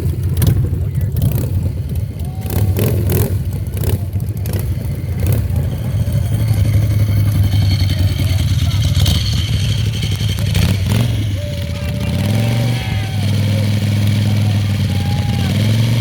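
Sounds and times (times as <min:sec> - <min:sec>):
motorcycle engines running: 0:00.0 - 0:16.0.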